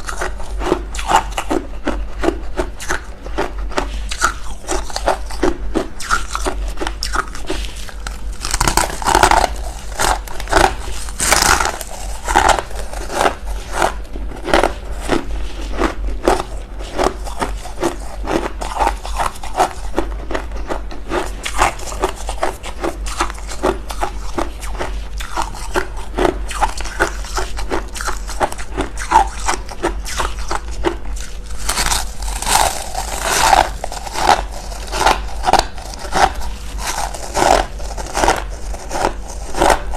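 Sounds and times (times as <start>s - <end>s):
frost crunching being chewed: 0.0s - 39.9s.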